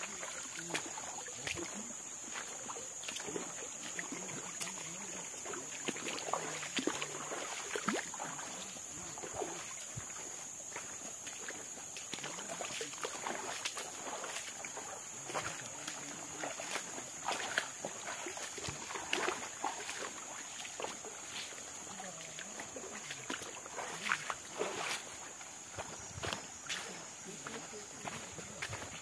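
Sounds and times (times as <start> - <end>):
footsteps on stones and wet sand: 0.0 - 29.0.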